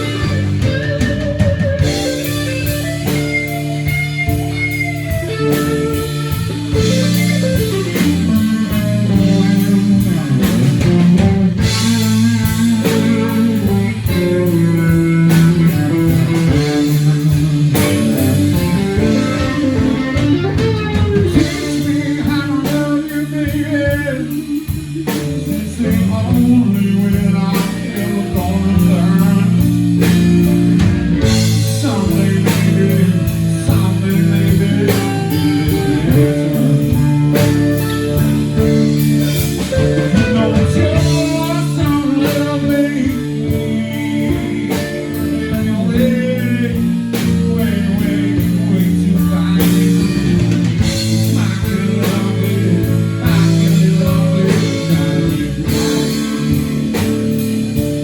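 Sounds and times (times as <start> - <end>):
blues-rock band playing: 0.0 - 58.0.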